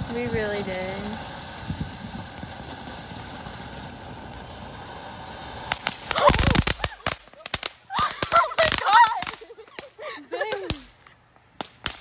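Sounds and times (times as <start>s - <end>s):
firework crackling pops and bangs: 0.0s - 12.0s
firework fountain hissing: 0.0s - 12.0s.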